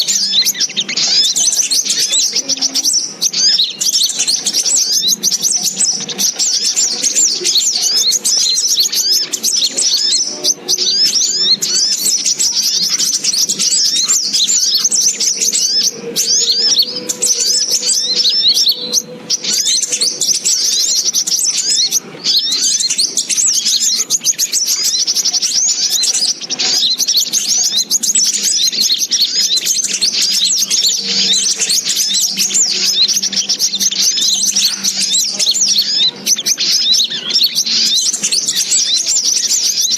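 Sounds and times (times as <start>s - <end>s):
bird high sharp chirps: 0.0s - 39.9s.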